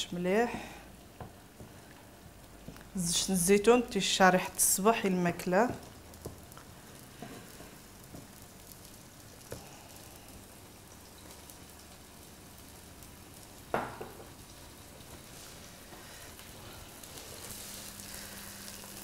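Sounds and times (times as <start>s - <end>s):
sauce sizzling in frying pan: 0.0s - 19.0s.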